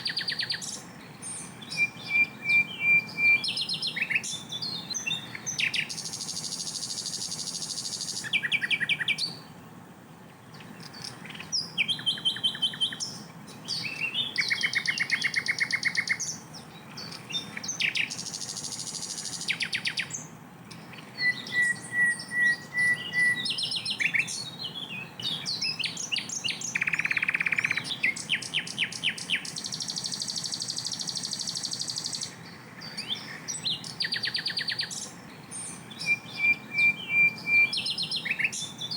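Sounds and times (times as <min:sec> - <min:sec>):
flycatcher singing trills: 0:00.0 - 0:09.6, 0:10.5 - 0:38.9.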